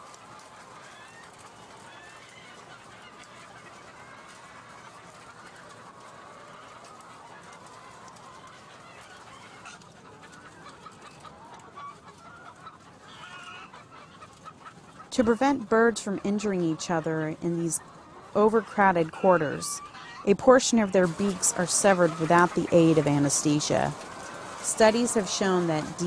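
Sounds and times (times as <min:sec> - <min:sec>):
hens clucking: 0:00.0 - 0:26.0
loud hen calls: 0:00.5 - 0:26.0.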